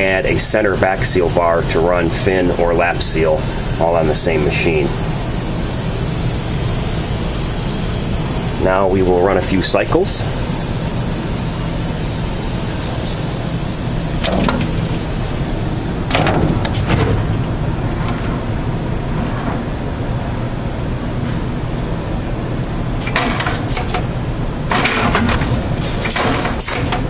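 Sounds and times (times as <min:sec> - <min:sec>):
machine low hum: 0:00.0 - 0:27.0
bagging machine mechanical bursts: 0:00.1 - 0:21.2, 0:22.5 - 0:27.0.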